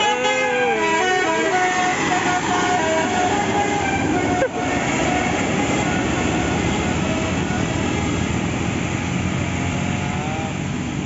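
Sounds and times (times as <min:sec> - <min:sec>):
diesel vehicle engine rumbling: 0:00.0 - 0:11.0.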